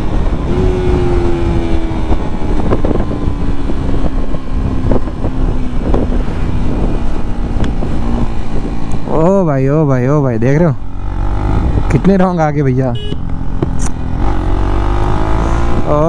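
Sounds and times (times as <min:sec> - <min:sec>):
motorcycle engine running: 0:00.0 - 0:16.0
wind rumble on microphone: 0:00.0 - 0:16.0.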